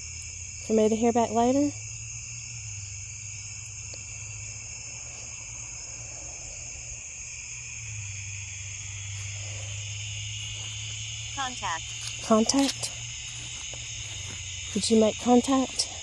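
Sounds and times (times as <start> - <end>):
crickets and insects ringing: 0.0 - 16.0.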